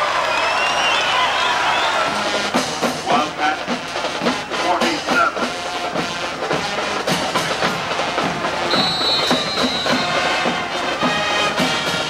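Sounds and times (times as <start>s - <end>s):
crowd voices: 0.0s - 12.0s
marching band drums: 1.5s - 12.0s.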